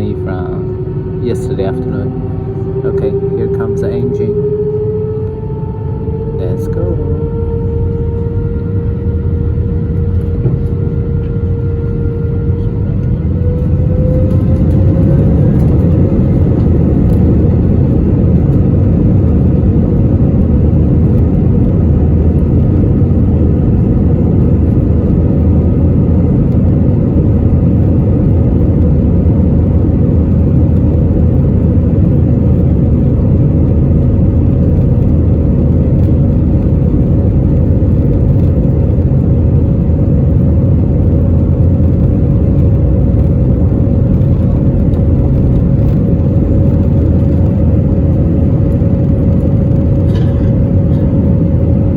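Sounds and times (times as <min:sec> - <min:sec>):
jet engines roaring in cabin: 0:00.0 - 0:51.9.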